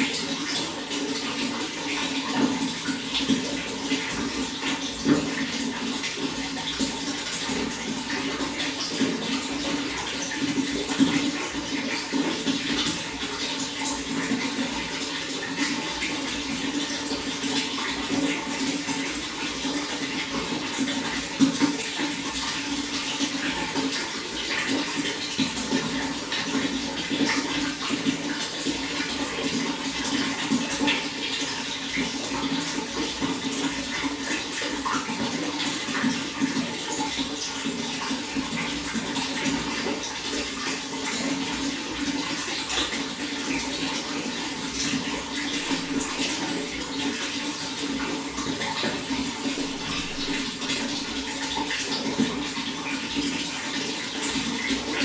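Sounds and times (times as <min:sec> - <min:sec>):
running water flowing: 0:00.0 - 0:55.0
small water splashes and trickles: 0:00.0 - 0:55.0.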